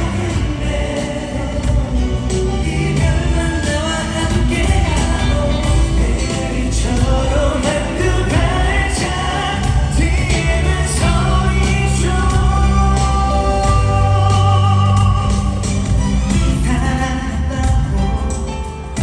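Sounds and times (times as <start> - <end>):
bass: 0.0 - 19.0
drums: 0.0 - 19.0
person singing: 0.0 - 19.0.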